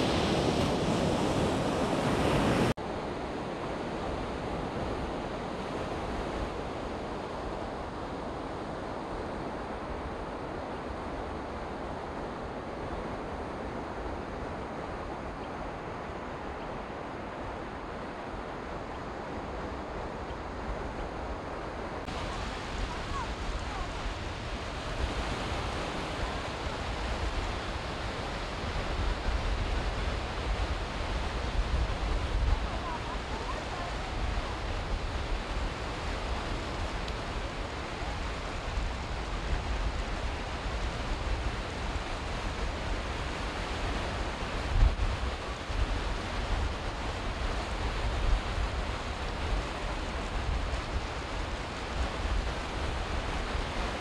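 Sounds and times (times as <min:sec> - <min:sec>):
surf washing up a beach: 0:00.0 - 0:54.0
wind rumble on microphone: 0:00.0 - 0:54.0.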